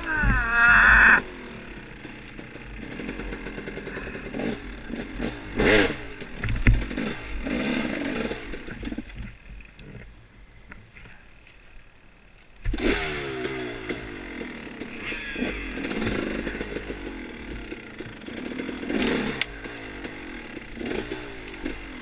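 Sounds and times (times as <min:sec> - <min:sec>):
dirt bike engine revving: 0:00.0 - 0:09.1, 0:12.7 - 0:22.0.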